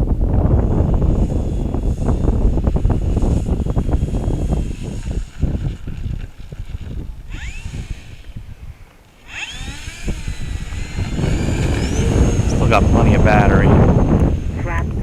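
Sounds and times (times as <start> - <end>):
electric motor and propeller whining: 0.0 - 15.0
wind buffeting microphone: 0.0 - 15.0.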